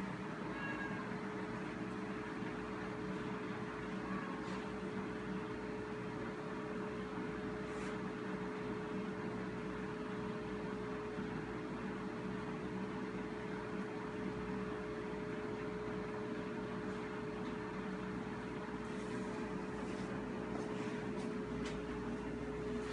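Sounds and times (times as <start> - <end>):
electrical hum: 0.0 - 22.9.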